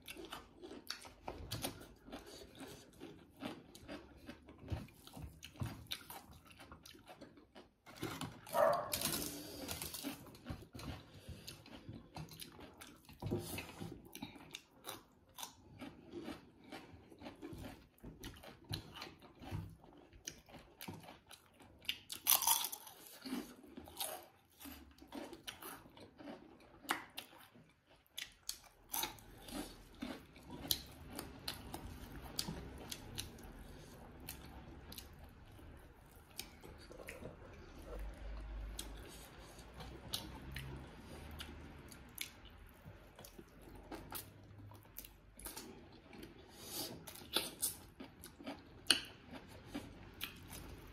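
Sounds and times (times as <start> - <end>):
chewing and lip smacks: 0.0 - 50.9
food crunching: 0.0 - 50.9.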